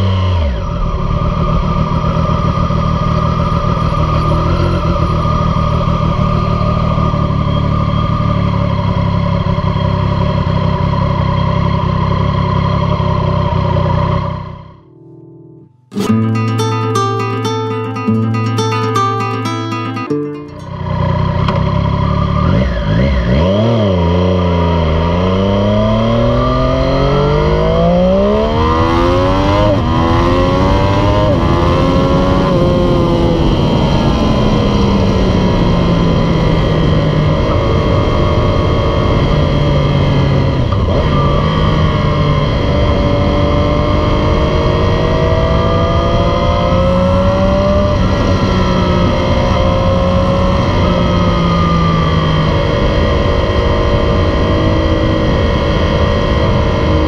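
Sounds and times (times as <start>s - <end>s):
motorcycle engine accelerating: 0.0s - 14.9s, 15.9s - 57.0s.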